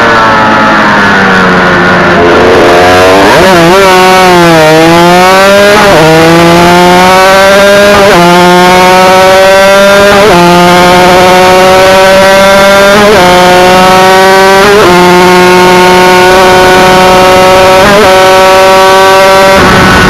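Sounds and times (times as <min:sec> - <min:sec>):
racing motorcycle engine revving: 0:00.0 - 0:20.0.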